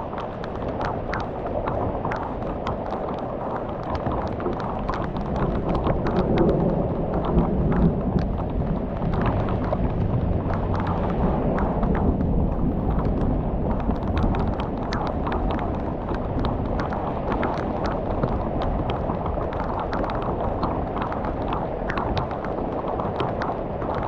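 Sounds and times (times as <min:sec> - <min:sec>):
heavy rain pouring: 0:00.0 - 0:24.0
low rumble of thunder: 0:01.6 - 0:24.0.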